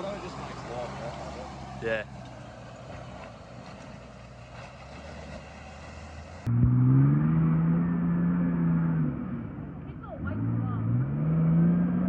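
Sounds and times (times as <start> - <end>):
engine revving: 0.0 - 12.0
vehicle engine humming: 0.0 - 12.0.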